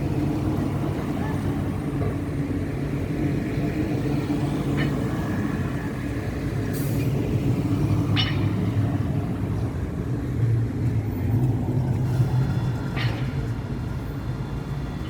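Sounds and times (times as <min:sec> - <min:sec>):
tram running: 0:00.0 - 0:15.0.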